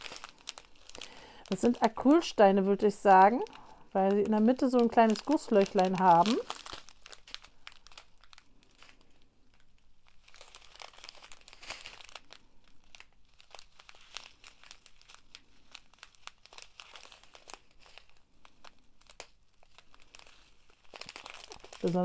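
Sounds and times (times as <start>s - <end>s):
plastic packets crinkling: 0.0s - 22.0s.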